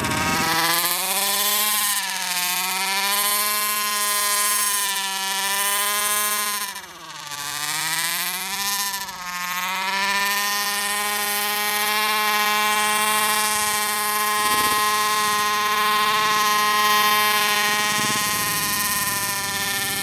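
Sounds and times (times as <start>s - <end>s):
small two-stroke engine buzzing: 0.0s - 20.0s.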